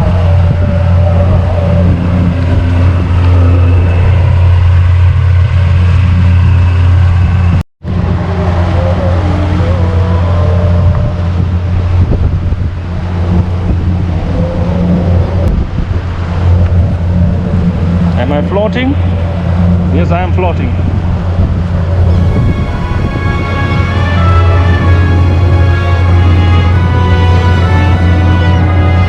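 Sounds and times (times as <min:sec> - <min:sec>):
boat engine droning: 0:00.0 - 0:29.0
wind noise on microphone: 0:00.0 - 0:29.0.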